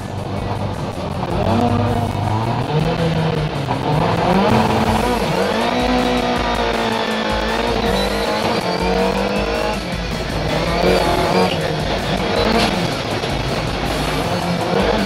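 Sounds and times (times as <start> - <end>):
car engine revving: 0.5 - 15.0.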